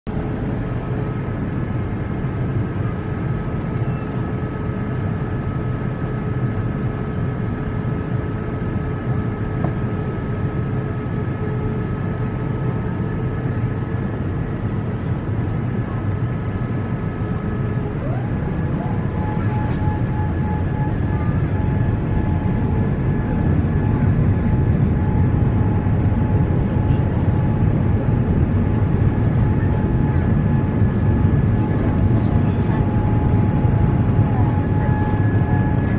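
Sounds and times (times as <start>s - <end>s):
airliner engine and airflow roar: 0.1s - 35.9s.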